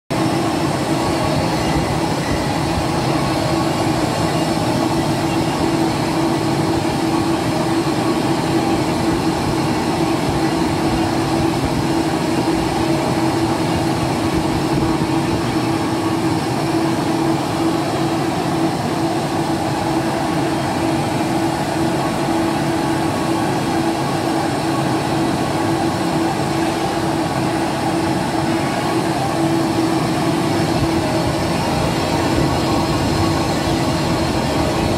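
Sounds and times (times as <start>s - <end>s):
lathe machining with hum: 0.1s - 34.9s.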